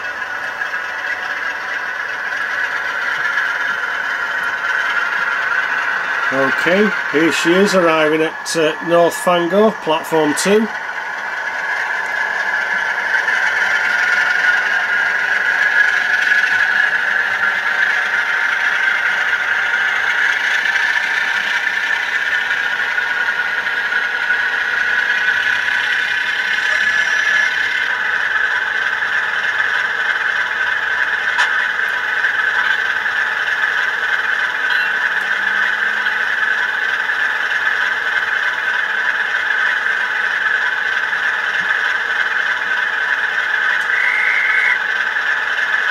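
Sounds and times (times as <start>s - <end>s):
model locomotive motor whining: 0.0s - 45.9s.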